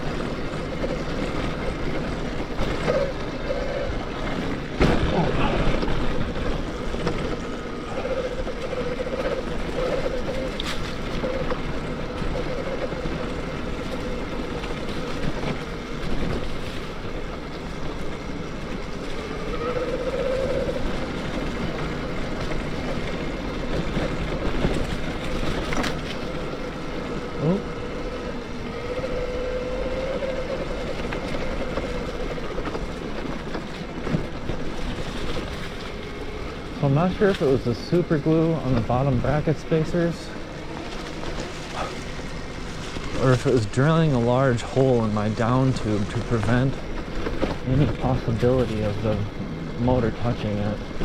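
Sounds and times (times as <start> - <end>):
electric bike motor whining: 0.0 - 51.0
wind and tyre noise: 0.0 - 51.0.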